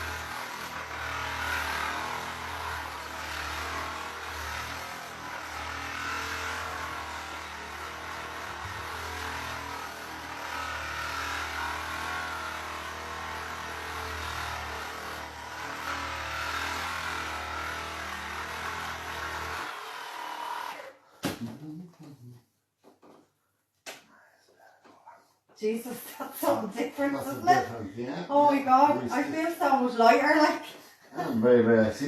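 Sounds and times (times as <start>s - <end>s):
massage gun motor buzzing: 0.0s - 21.1s, 26.2s - 31.6s.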